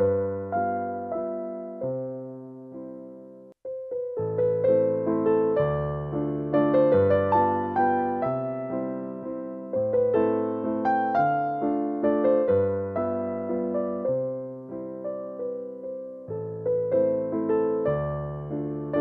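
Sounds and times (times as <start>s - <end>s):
gentle piano tune: 0.0s - 19.0s.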